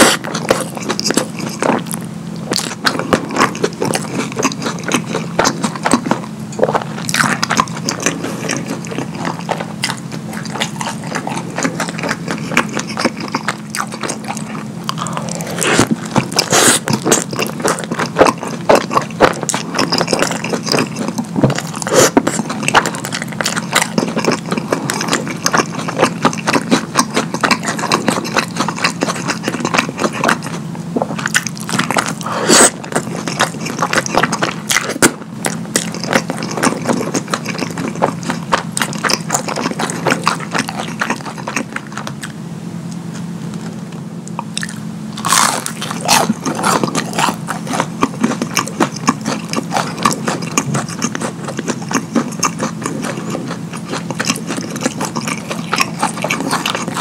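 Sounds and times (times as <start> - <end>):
wet chewing and lip smacking: 0.0 - 42.4, 43.6 - 57.0
steady low hum: 0.0 - 57.0.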